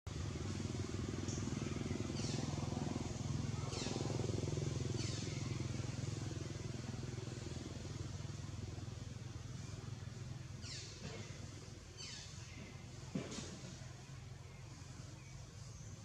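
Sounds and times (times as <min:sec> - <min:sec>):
pulsing low motor drone: 0:00.1 - 0:16.0.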